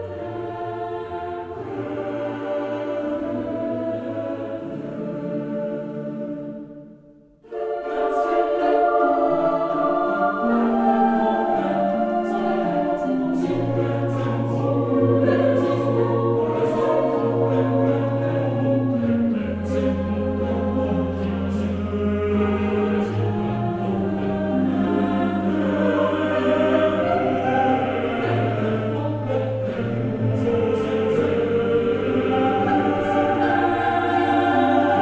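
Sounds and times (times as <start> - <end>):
choir-like voices: 0.0 - 35.0.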